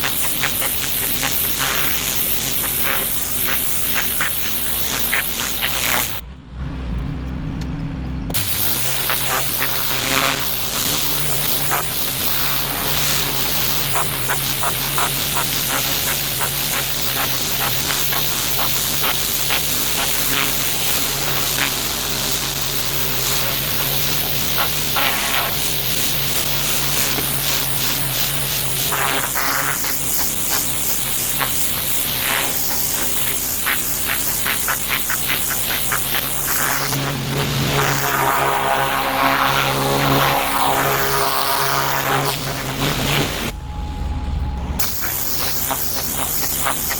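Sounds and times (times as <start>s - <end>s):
pressure washer spraying stone: 0.0s - 6.2s, 8.3s - 43.5s, 44.8s - 46.9s
pressure washer motor hum: 0.0s - 6.3s, 7.2s - 43.6s, 44.6s - 46.9s.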